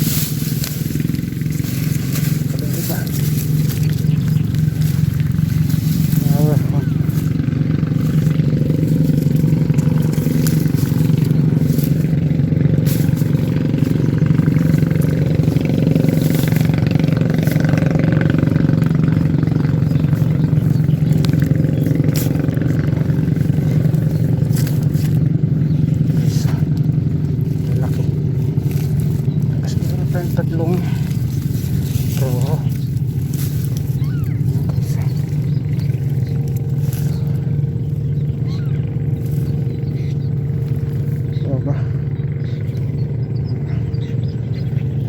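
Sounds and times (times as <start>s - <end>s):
steady low drone: 0.0s - 45.0s.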